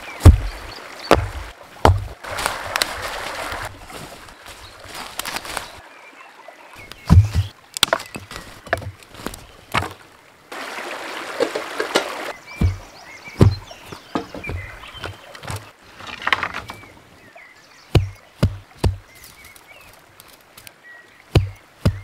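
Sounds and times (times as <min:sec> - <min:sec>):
footsteps on forest floor: 0:00.0 - 0:05.8, 0:06.8 - 0:10.1, 0:11.2 - 0:16.9, 0:17.9 - 0:20.7, 0:21.3 - 0:22.0
twigs cracking: 0:00.0 - 0:05.8, 0:06.8 - 0:10.0, 0:11.4 - 0:17.0, 0:17.9 - 0:22.0
stream running: 0:00.0 - 0:22.0.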